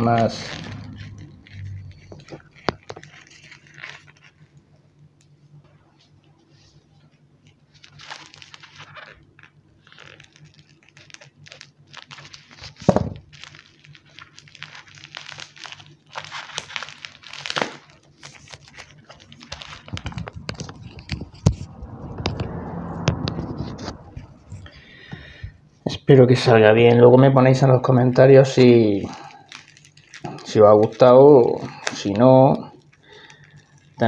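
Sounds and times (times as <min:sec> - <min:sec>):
parcel crinkling and crackling: 0:00.0 - 0:22.0, 0:27.2 - 0:34.0.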